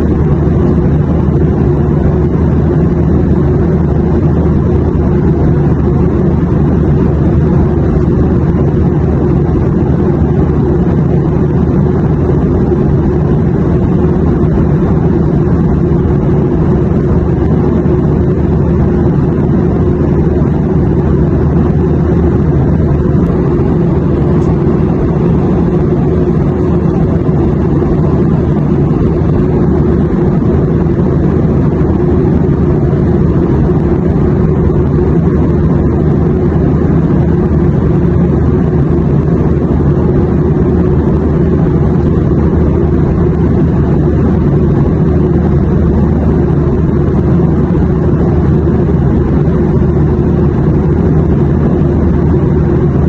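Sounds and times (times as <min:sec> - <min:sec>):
airliner cabin engine rumble: 0:00.0 - 0:53.0.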